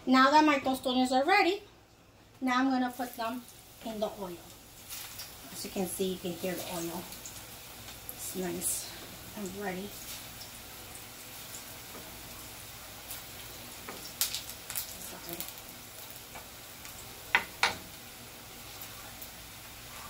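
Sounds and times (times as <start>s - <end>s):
food sizzling in hot oil: 2.5s - 20.0s.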